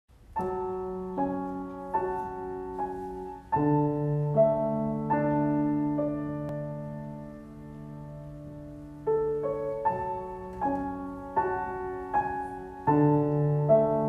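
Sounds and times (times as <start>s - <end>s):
slow grand piano passage: 0.1s - 14.0s.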